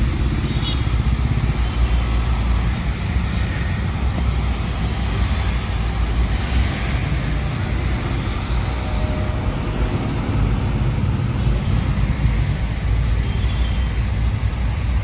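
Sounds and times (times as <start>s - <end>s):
bus engine and tyres rumble: 0.0s - 15.0s
road traffic: 0.0s - 15.0s.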